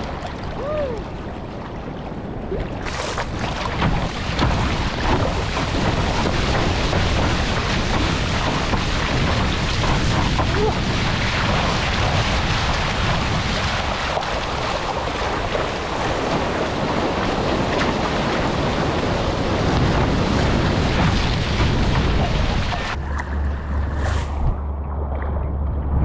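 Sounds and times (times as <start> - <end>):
whitewater rushing: 0.0 - 1.4, 2.6 - 24.5
low rumble on microphone: 0.0 - 26.0.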